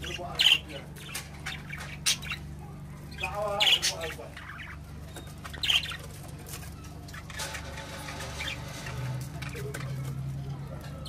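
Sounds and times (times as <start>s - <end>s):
budgerigars chirping and squawking: 0.0s - 11.0s.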